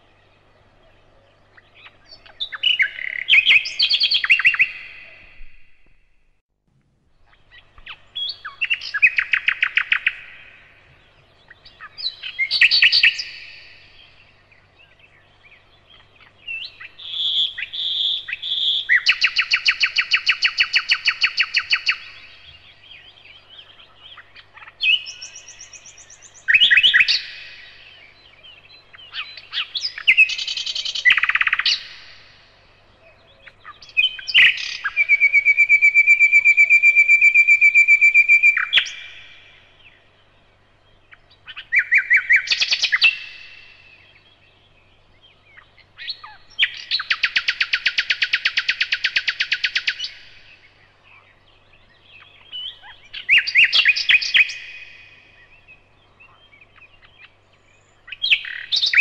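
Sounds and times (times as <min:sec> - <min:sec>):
nightingale singing: 0:00.0 - 0:06.4, 0:07.1 - 0:59.0.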